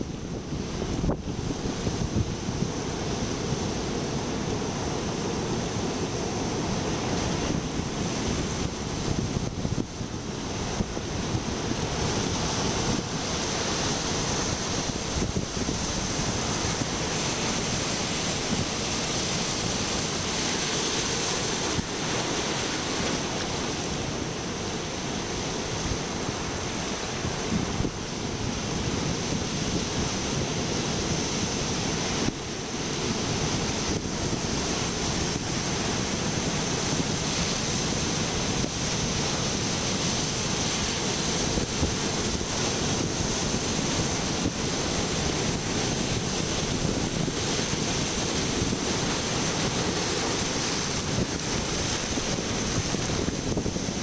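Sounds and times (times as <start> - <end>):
surf breaking over rocks: 0.0 - 54.0.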